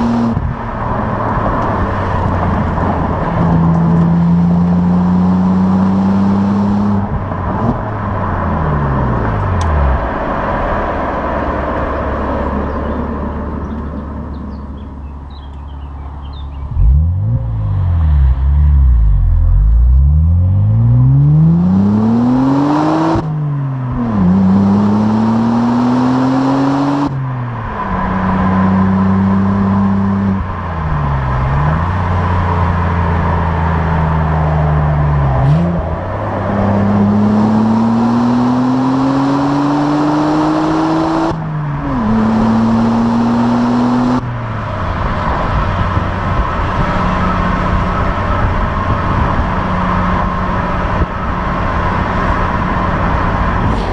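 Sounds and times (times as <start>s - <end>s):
car engine accelerating through gears: 0.0s - 53.9s.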